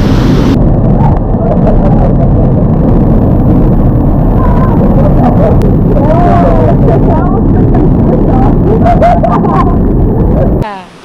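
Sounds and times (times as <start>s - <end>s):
waterfall rushing: 0.0s - 0.9s, 2.8s - 11.0s.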